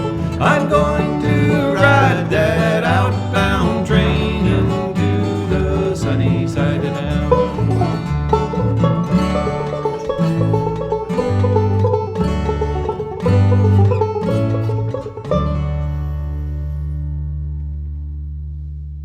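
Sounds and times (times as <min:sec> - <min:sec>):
plucked banjo: 0:00.0 - 0:18.0
guitar: 0:00.0 - 0:19.0
stepping bass line: 0:00.0 - 0:19.0.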